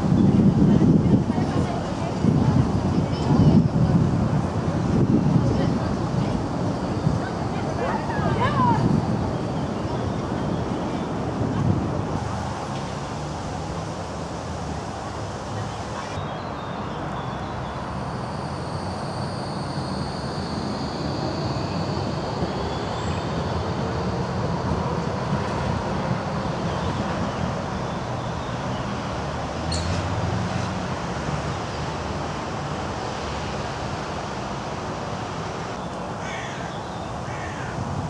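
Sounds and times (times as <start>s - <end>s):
tram wheels rumbling: 0.0s - 16.2s, 19.7s - 36.2s.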